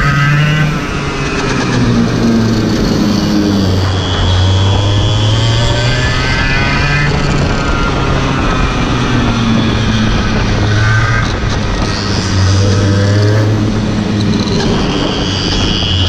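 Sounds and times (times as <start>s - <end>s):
go-kart engine revving: 0.0s - 16.0s.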